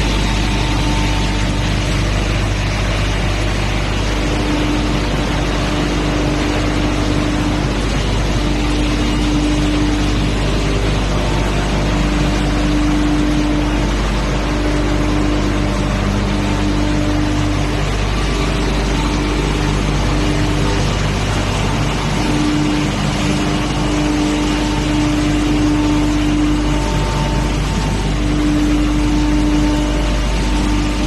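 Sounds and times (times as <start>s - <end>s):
hammer mill roaring: 0.0s - 31.0s
pulsing humming tone: 0.0s - 31.0s.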